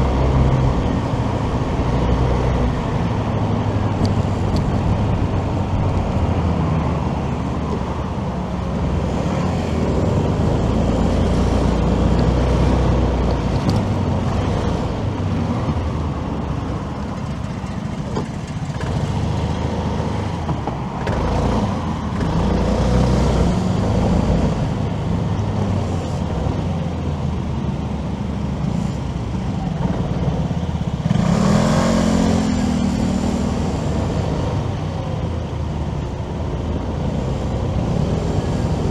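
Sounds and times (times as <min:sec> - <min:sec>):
loud engine rising and falling: 0:00.0 - 0:27.1, 0:27.8 - 0:38.9
motorcycle engine: 0:00.0 - 0:38.9
road and traffic noise: 0:00.0 - 0:38.9.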